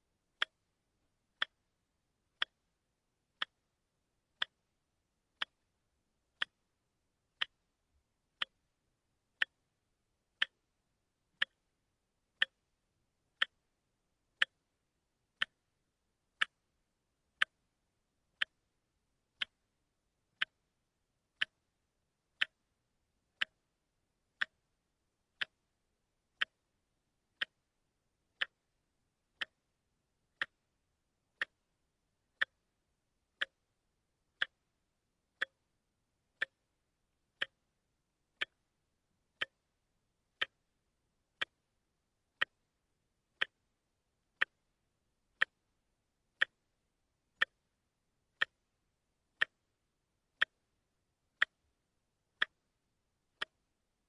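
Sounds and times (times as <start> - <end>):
wristwatch ticking: 0.3 - 10.7, 11.3 - 54.0.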